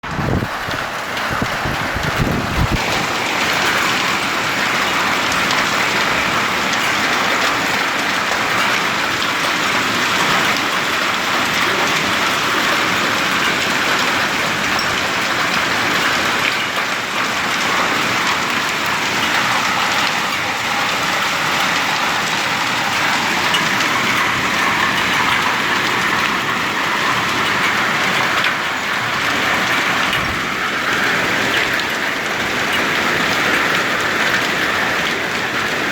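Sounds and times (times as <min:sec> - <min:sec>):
rain falling: 0:00.0 - 0:35.9.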